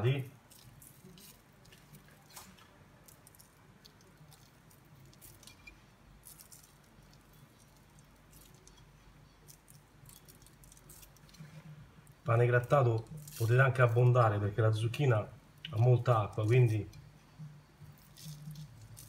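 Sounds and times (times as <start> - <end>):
breadcrumbs pattering: 0.0 - 14.8, 17.9 - 19.0
low steady hum: 0.0 - 19.0.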